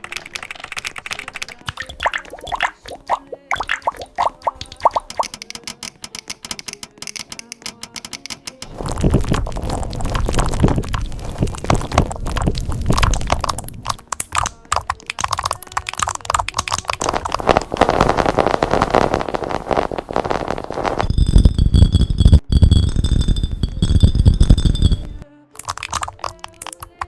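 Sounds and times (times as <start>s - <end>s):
background music: 0.0s - 21.0s, 23.7s - 27.0s
keyboard typing: 0.0s - 27.0s.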